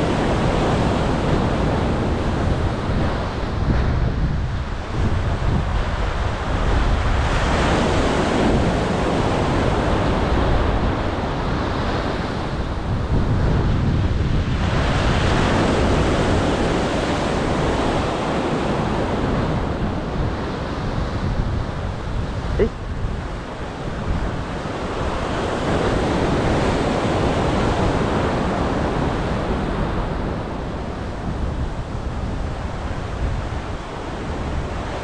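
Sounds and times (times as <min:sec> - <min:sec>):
ocean surf washing ashore: 0:00.0 - 0:35.0
wind buffeting microphone: 0:00.0 - 0:35.0.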